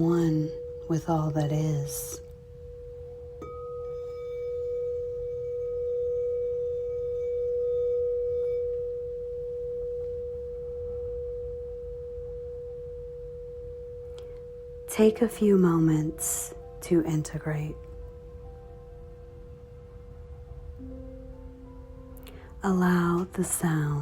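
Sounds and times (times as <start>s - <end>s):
singing bowl ringing tone: 0.0s - 24.0s.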